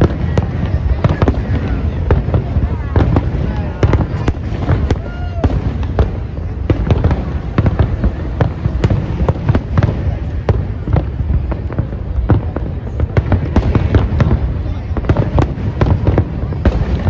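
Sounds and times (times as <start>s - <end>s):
fireworks bangs and crackles: 0.0s - 17.0s
low rumble of booming shells: 0.0s - 17.0s.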